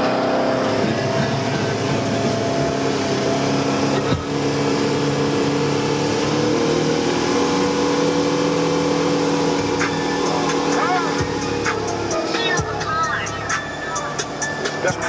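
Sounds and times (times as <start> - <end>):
vehicle engine running: 0.0 - 15.0
wind: 0.0 - 15.0.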